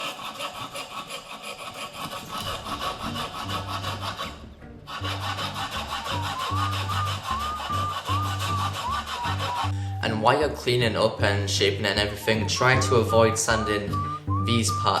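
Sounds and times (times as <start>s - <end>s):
hand tool rasping wood: 0.0s - 15.0s
music bass line: 2.8s - 15.0s.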